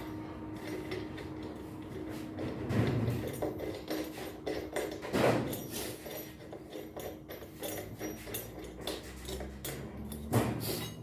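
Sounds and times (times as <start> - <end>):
tools and metal parts clicking: 0.0 - 11.0.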